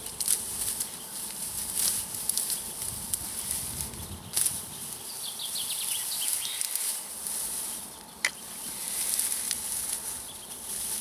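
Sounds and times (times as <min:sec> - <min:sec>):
dry bracken rustling and crackling: 0:00.0 - 0:11.0.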